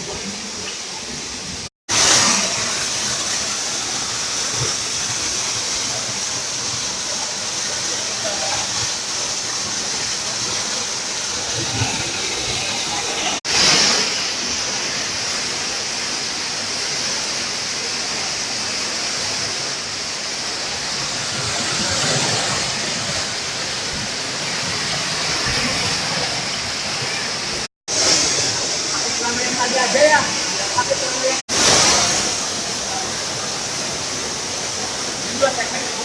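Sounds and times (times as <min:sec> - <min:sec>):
waterfall rushing hiss: 0:00.0 - 0:36.0.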